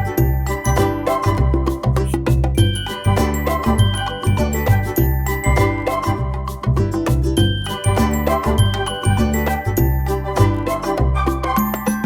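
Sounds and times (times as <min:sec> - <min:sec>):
repeating bass line: 0:00.0 - 0:11.6.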